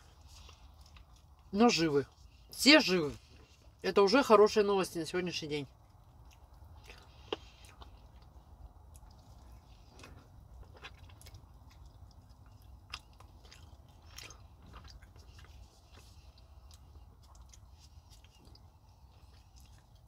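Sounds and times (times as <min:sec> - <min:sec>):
chewing and wet mouth sounds: 0:00.0 - 0:20.0
steady low hum: 0:00.0 - 0:20.0.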